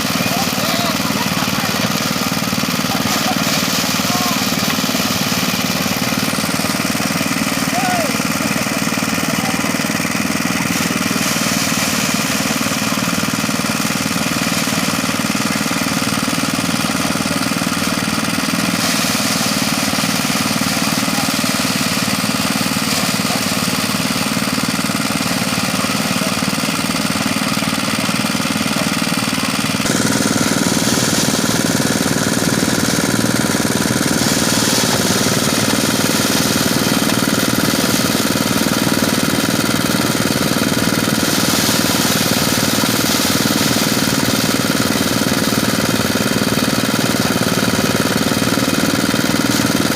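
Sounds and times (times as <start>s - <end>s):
rice thresher rattling: 0.0s - 49.9s.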